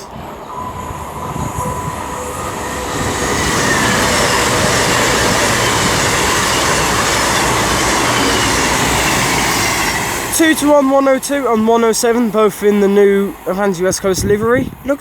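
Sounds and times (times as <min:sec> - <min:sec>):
diesel train engine: 0:00.0 - 0:15.0
rail noise: 0:00.0 - 0:15.0.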